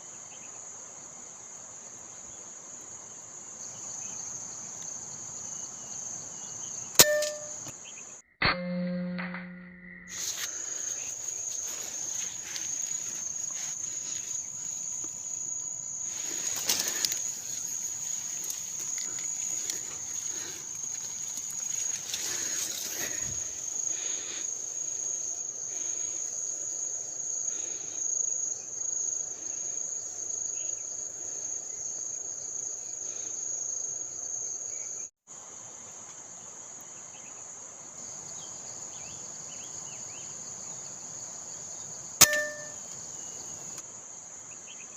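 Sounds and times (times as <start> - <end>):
insects droning: 0.0 - 8.3, 9.7 - 44.9.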